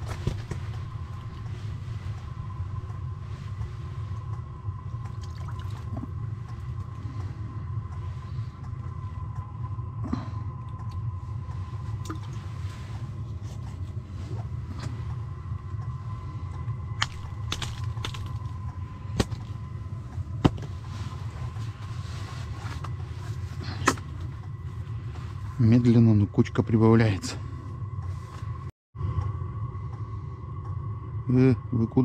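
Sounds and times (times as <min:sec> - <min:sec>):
faint steady whine: 0:00.0 - 0:32.0
low rumble: 0:00.0 - 0:32.0.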